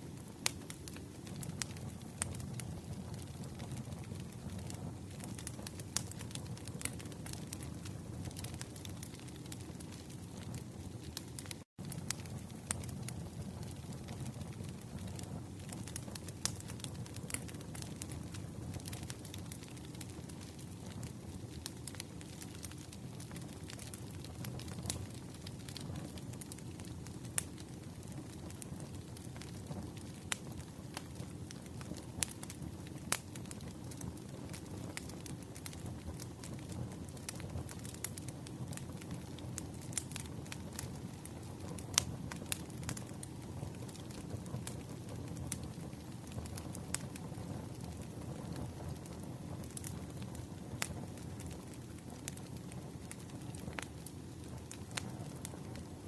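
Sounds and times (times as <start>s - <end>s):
low fire rumble: 0.0s - 56.0s
wood fire snapping and popping: 0.0s - 56.0s.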